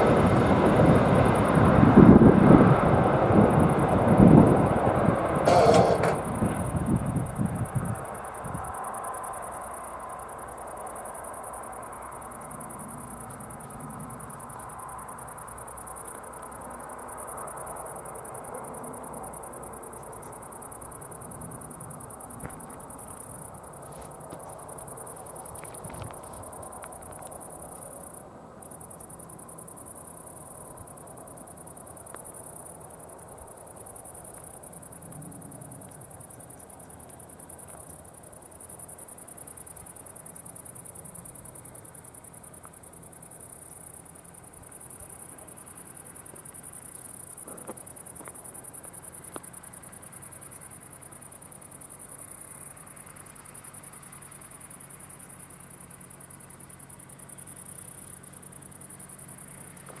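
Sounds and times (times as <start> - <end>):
crickets chirping: 0.0 - 60.0.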